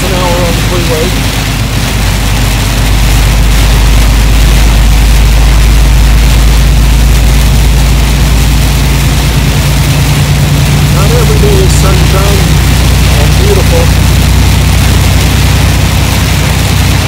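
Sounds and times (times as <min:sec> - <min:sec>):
diesel truck engine rumble: 0:00.0 - 0:17.0
heavy rain on windshield: 0:00.0 - 0:17.0.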